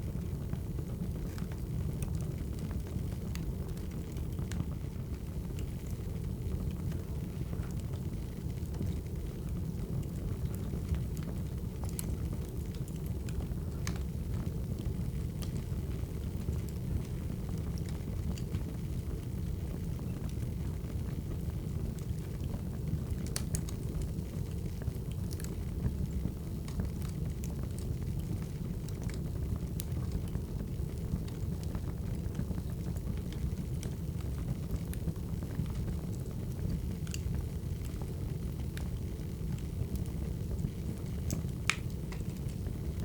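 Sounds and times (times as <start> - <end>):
fire rumbling: 0.0 - 43.0
logs crackling and popping: 0.4 - 43.0.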